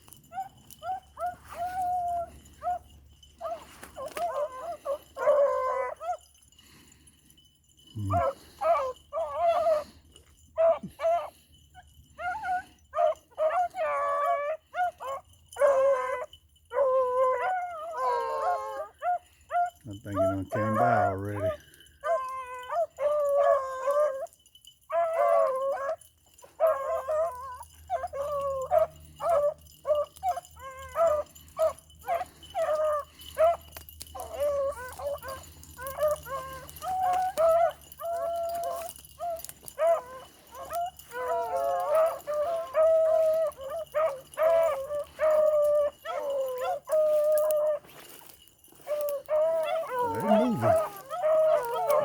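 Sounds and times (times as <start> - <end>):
hounds baying and barking: 0.0 - 52.0.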